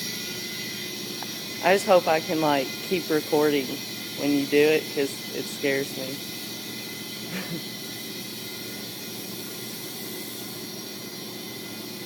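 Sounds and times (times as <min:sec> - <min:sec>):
compressed air hissing: 0:00.0 - 0:12.0.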